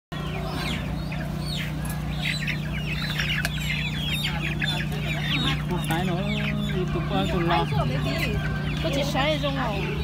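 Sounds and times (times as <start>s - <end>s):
chicks peeping: 0.1s - 10.0s
steady low hum: 0.2s - 10.0s.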